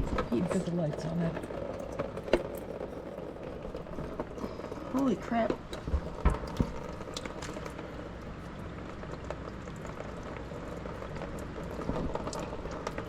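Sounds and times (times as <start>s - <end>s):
oil dripping: 0.0s - 13.0s
oil trickling into a drain pan: 0.3s - 13.0s.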